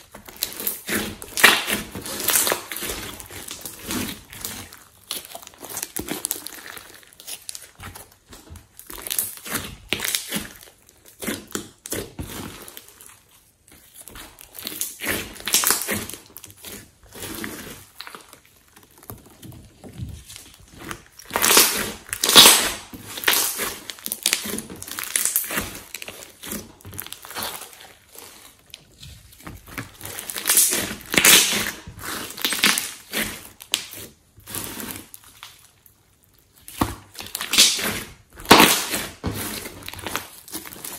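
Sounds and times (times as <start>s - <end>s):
slime crackling squishes: 0.0s - 40.9s.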